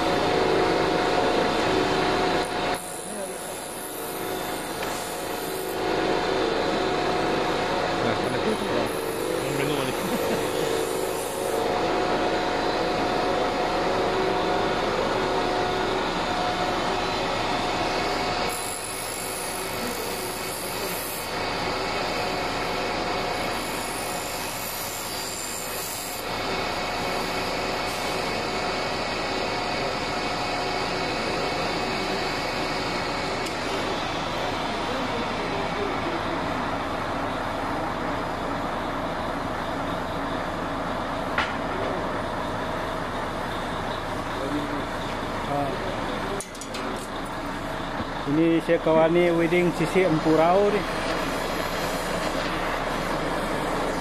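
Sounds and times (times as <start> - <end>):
welding torch hissing: 0.0 - 36.3, 46.9 - 54.0
steady humming tones: 0.0 - 54.0.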